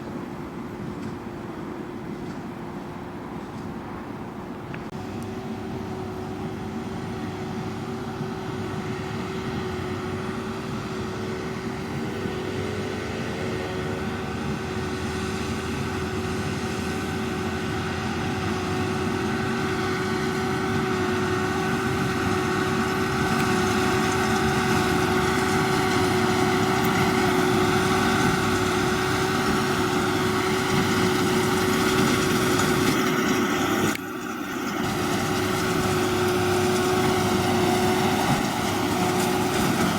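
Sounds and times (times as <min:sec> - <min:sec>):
baler machinery drone: 0:00.0 - 0:39.9
tractor engine running: 0:00.0 - 0:39.9.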